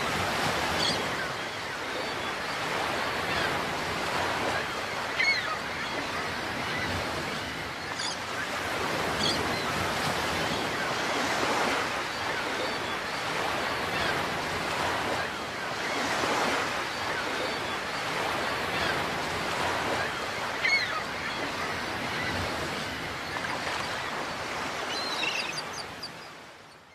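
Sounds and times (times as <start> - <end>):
ocean waves washing: 0.0 - 26.7.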